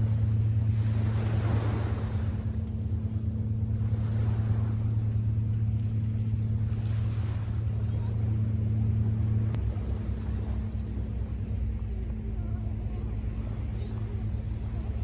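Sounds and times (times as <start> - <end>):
low engine drone: 0.0 - 15.0
small waves washing: 0.0 - 15.0.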